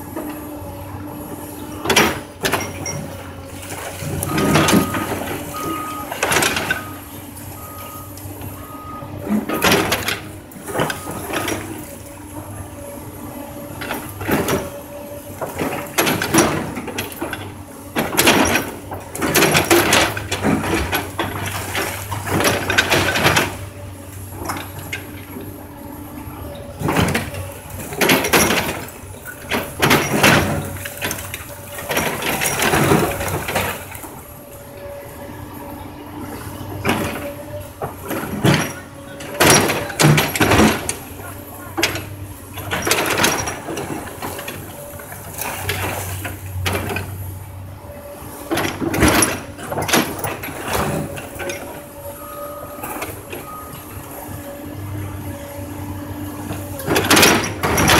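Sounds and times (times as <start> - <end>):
excavator engine droning: 0.0 - 57.9.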